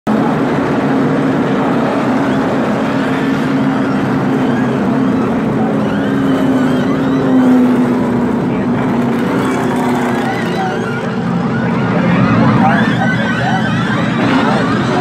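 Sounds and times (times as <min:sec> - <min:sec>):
race car engines droning: 0:00.1 - 0:15.0.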